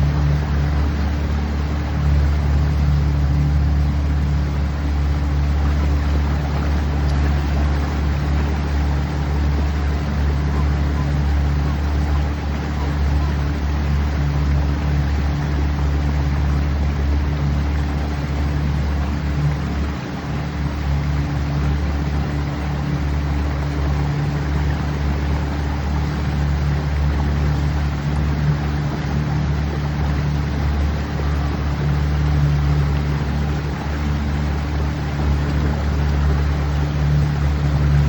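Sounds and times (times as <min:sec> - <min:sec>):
boat motor droning: 0:00.0 - 0:38.0
water rushing: 0:00.0 - 0:38.0
wind: 0:00.0 - 0:38.0.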